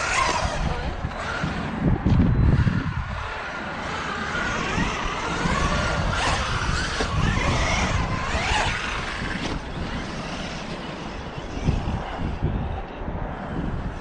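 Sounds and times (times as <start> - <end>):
electric rc truck motor whining: 0.0 - 14.0.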